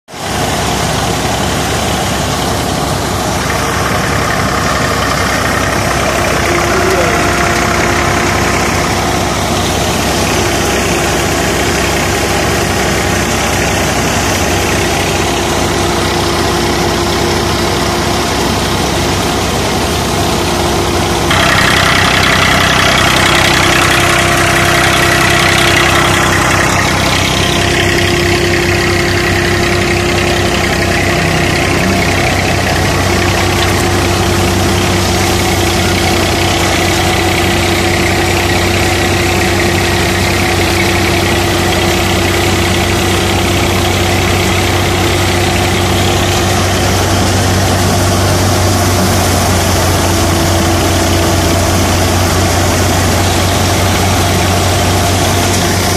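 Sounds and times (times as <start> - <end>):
thresher drum and fan whirring: 0.1 - 55.9
tractor diesel engine running: 0.1 - 55.9.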